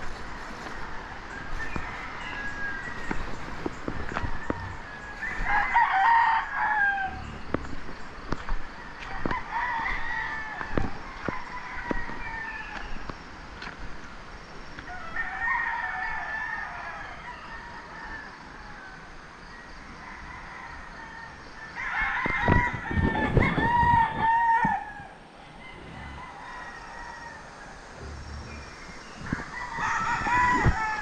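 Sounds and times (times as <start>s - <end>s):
roosters crowing: 0.0s - 13.2s, 14.8s - 31.0s.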